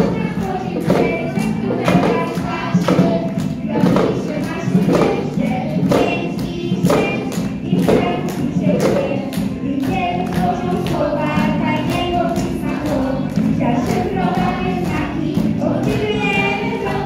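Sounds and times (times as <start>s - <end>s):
children singing together: 0.0s - 17.0s
music with percussive beat: 0.0s - 17.0s.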